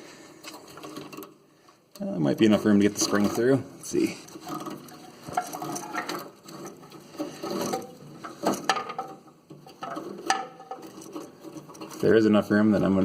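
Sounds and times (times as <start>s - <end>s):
metallic scraping and rattling: 0.0s - 1.4s, 2.1s - 13.0s.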